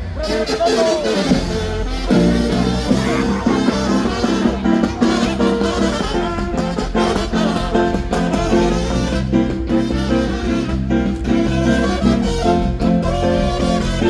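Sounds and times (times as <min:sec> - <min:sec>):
brass band music: 0:00.0 - 0:14.0.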